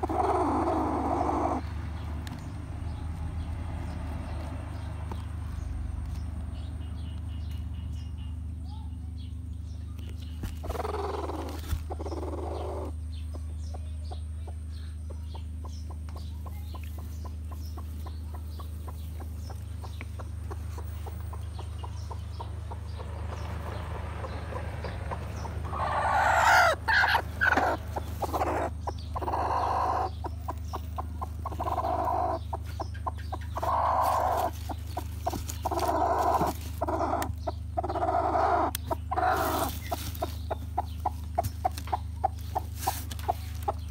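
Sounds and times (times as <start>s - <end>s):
hen clucking: 0.0s - 1.7s, 10.4s - 43.9s.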